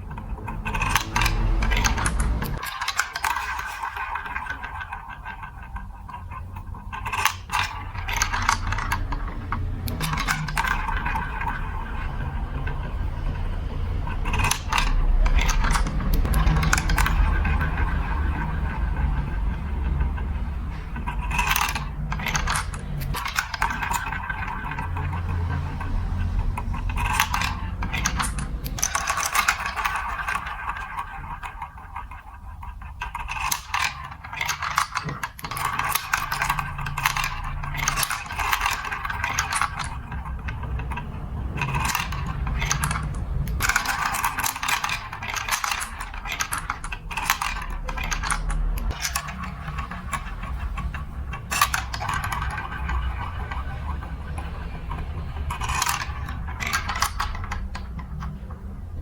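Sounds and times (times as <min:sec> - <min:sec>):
marbles rattling through marble run: 0:00.0 - 0:59.0.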